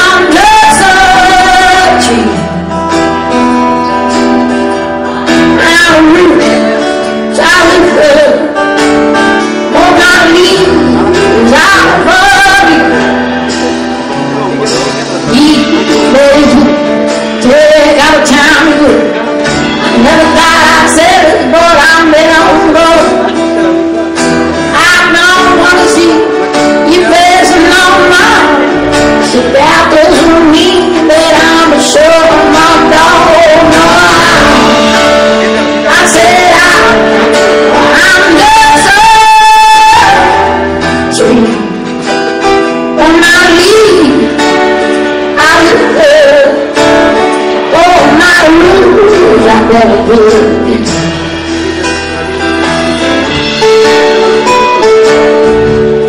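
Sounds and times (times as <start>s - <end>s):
acoustic guitars: 0.0s - 56.0s.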